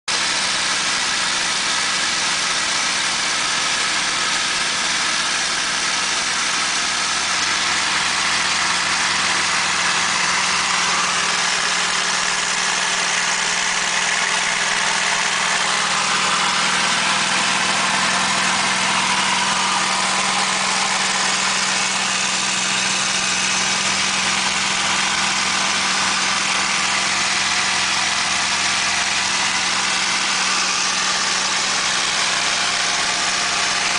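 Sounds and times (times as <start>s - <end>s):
piston aircraft engine drone: 0.1s - 33.9s.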